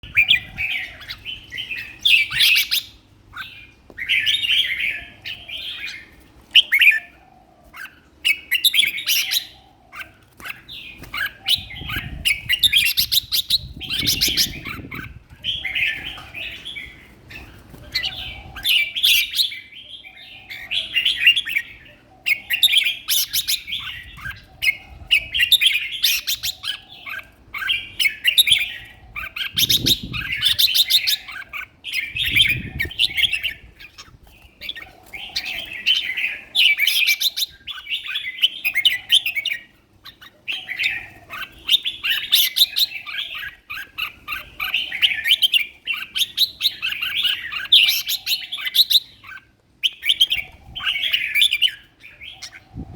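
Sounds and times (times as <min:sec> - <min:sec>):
bulbul singing: 0:00.0 - 0:07.2, 0:07.8 - 0:52.9.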